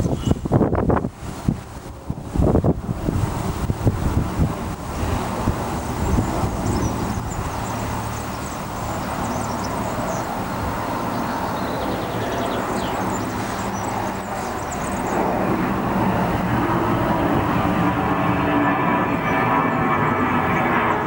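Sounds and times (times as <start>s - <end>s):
jet engines passing overhead: 0.0s - 21.0s.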